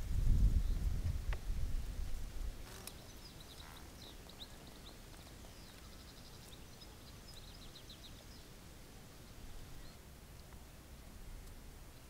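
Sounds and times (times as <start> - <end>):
songbird chirping faintly: 0.2 - 12.0.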